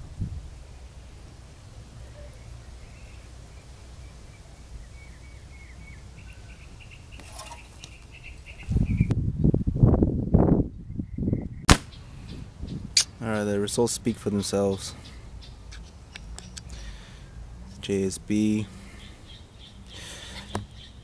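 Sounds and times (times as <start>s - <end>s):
small birds chirping: 2.0s - 9.6s, 10.6s - 21.0s.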